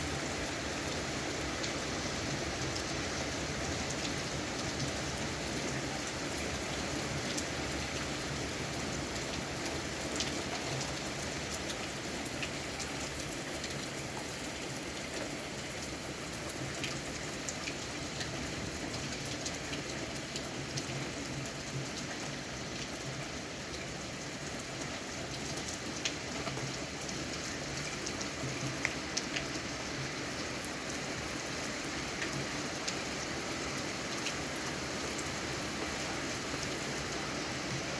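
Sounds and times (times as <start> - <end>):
heavy rain falling: 0.0 - 37.9
raindrops ticking close by: 0.3 - 37.9.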